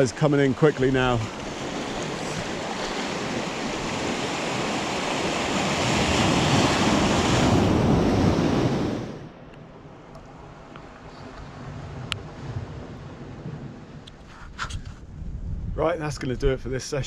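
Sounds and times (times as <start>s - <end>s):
sea waves rushing in: 0.0s - 14.4s.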